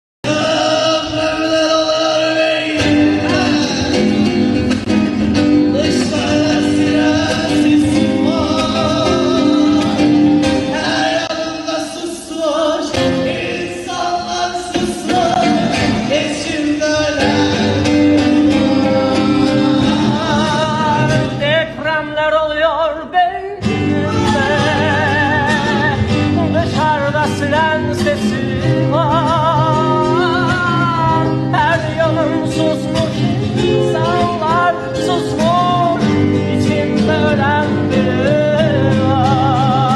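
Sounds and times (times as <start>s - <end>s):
person singing with vibrato: 0.2s - 39.9s.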